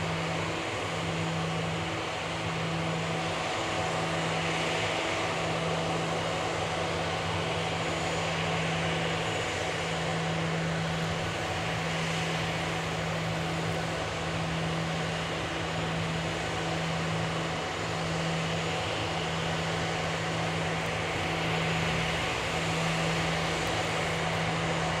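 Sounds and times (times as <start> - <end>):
constant low drone: 0.0 - 25.0.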